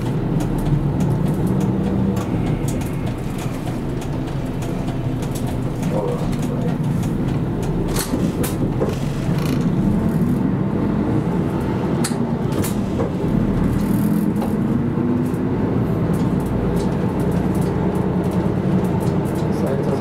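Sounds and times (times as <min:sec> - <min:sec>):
clicks and rattles in cabin: 0:00.0 - 0:10.4, 0:11.6 - 0:20.0
bus engine drone: 0:00.0 - 0:20.0.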